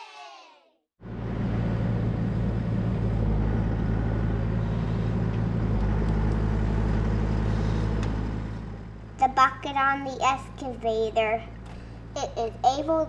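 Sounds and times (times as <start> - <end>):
diesel engine running: 1.0 - 13.0.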